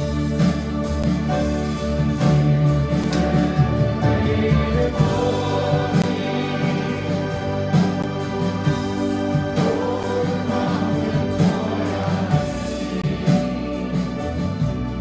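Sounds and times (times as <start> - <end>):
acoustic guitar: 0.0 - 15.0
piano: 0.0 - 15.0
voices singing slow melody: 0.0 - 15.0.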